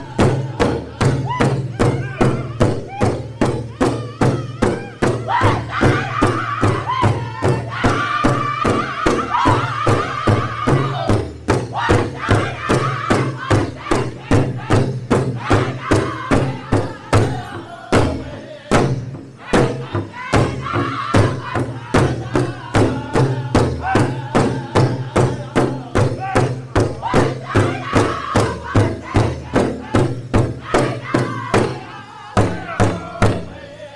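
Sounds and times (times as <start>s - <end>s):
large drum steady beat: 0.0s - 33.7s
men singing in high voices: 0.0s - 33.9s.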